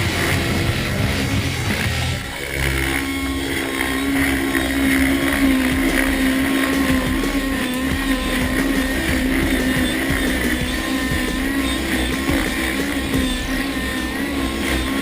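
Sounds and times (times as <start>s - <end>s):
model helicopter engine running: 0.0s - 15.0s.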